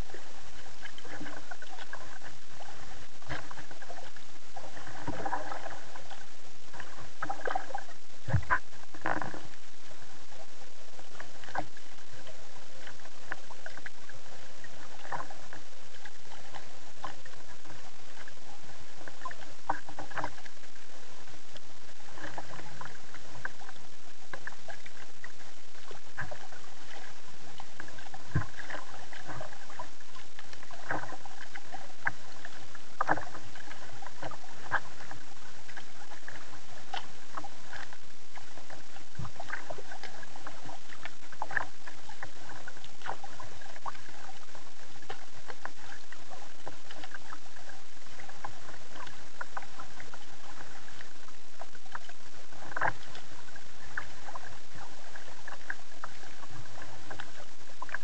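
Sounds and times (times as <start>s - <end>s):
kayak paddle splashing: 0.0s - 58.0s.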